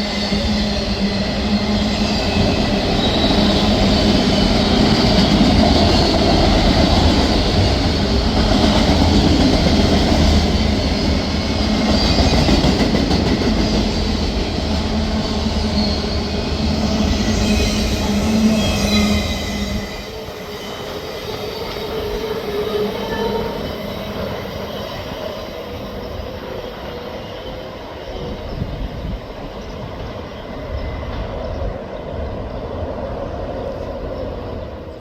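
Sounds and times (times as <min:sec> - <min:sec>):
high tones from train wheels: 0:00.0 - 0:32.5
train wheels rumbling on rail: 0:00.0 - 0:35.0.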